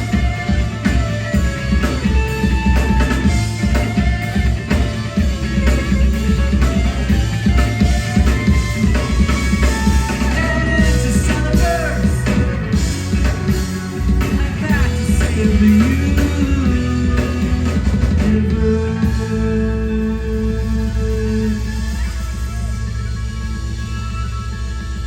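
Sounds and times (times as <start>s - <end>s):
electric guitar with bends: 0.0s - 25.0s
live rock band playing: 0.0s - 25.0s.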